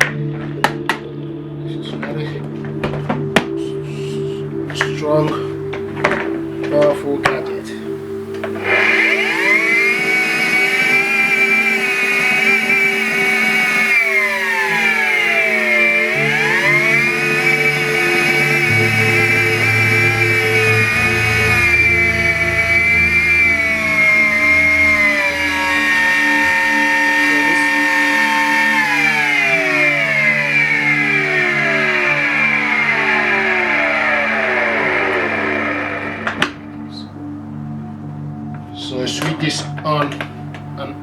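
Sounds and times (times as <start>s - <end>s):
vacuum cleaner motor whine: 2.5s - 40.7s.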